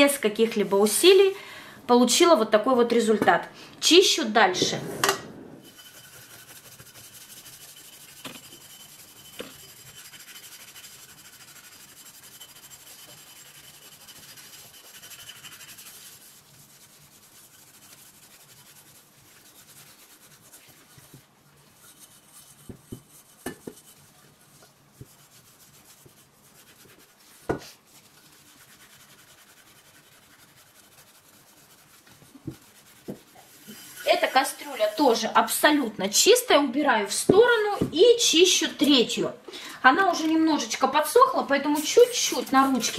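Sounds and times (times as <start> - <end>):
scraper rubbing on steel pot: 4.5 - 36.4, 40.0 - 42.9.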